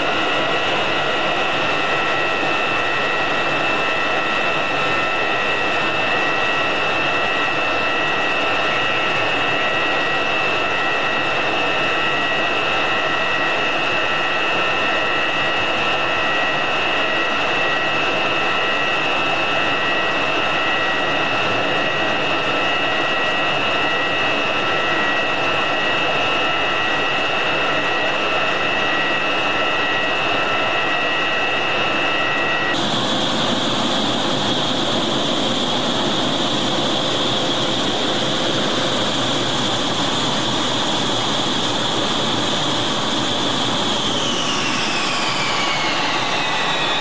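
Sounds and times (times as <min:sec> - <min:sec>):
high jet whine: 0:00.0 - 0:47.0
jet engine idling: 0:00.0 - 0:47.0.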